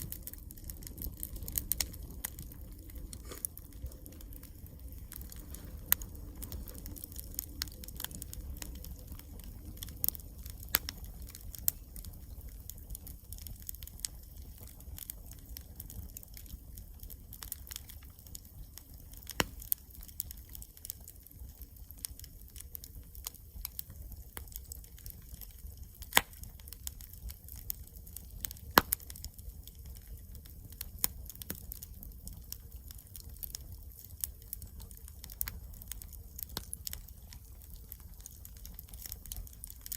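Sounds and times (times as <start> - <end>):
campfire crackling: 0.0 - 39.9
low rumble of fire: 0.0 - 39.9.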